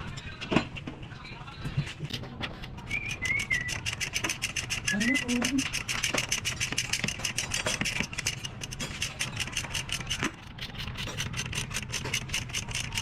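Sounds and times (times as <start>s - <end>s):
rapid rasping strokes: 2.4s - 13.0s.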